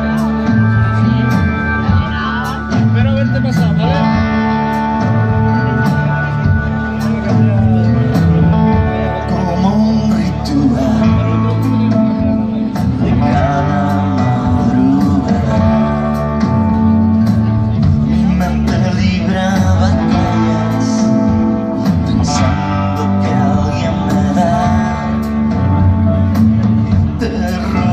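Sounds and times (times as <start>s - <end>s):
live rock band playing: 0.0s - 27.9s.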